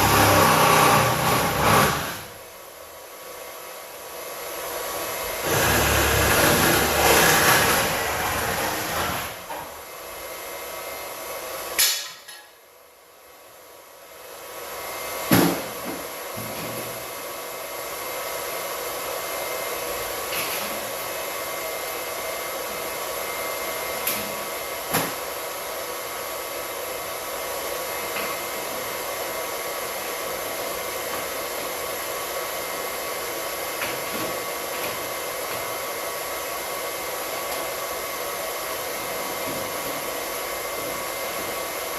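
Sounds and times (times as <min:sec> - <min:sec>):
electric pump running: 0:00.0 - 0:11.8, 0:14.0 - 0:41.9.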